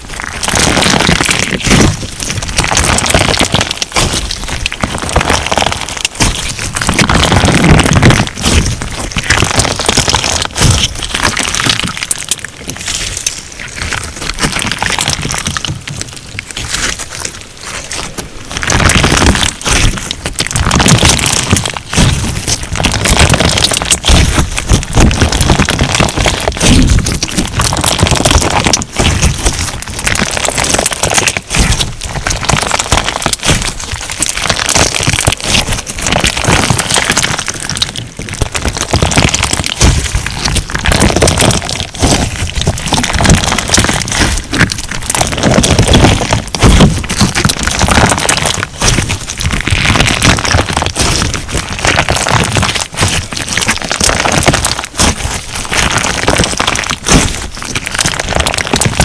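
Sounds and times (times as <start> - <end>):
slime crackling and popping: 0.0 - 59.0.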